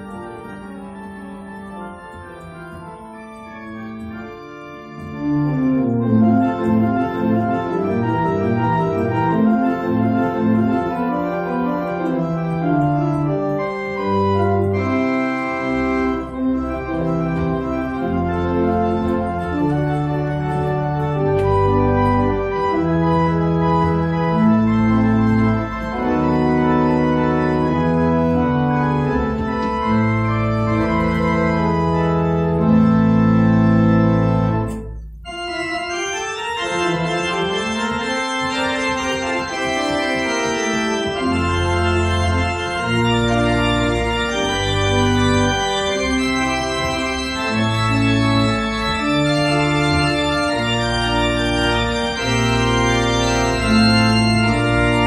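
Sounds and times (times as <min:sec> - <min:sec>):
church organ playing hymn: 0:00.0 - 0:55.0.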